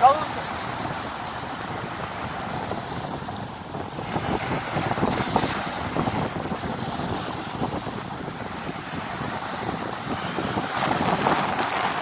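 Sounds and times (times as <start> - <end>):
small waves breaking on beach: 0.0 - 12.0
wind buffeting microphone: 0.0 - 12.0.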